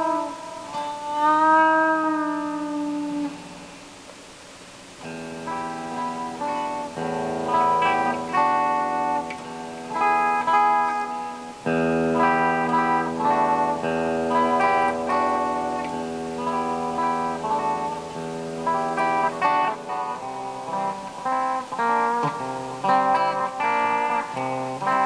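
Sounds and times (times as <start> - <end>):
clean electric guitar: 0.0 - 25.0.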